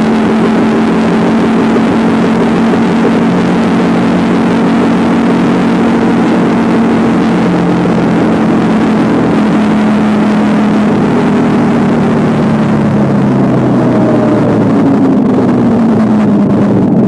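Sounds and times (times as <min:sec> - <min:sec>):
motorcycle engine cruising: 0:00.0 - 0:17.0
road noise: 0:00.0 - 0:17.0
wind rush: 0:00.0 - 0:17.0.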